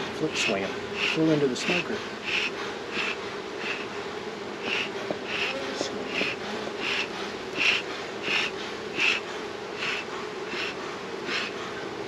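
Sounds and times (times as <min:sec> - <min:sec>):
bellows smoker puffing: 0:00.0 - 0:12.0
honey bees buzzing: 0:00.0 - 0:12.0.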